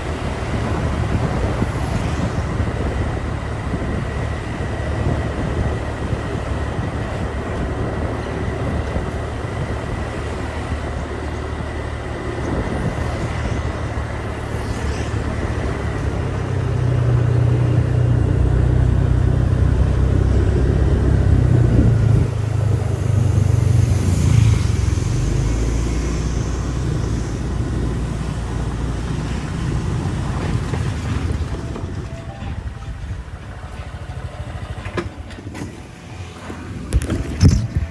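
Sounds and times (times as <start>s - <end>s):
road and traffic noise: 0.0s - 37.9s.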